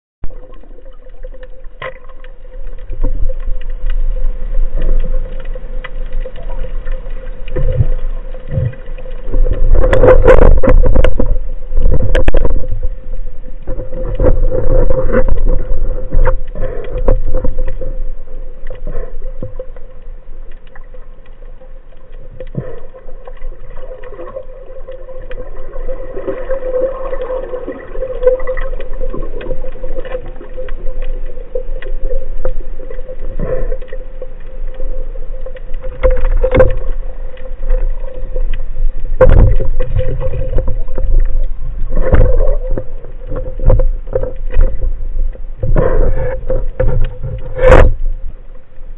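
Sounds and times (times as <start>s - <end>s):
underwater rumble: 0.2s - 48.9s.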